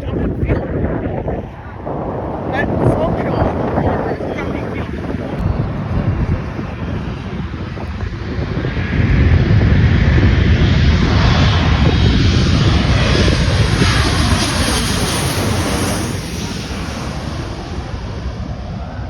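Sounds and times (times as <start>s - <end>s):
jet airliner engine roar: 0.0s - 19.0s.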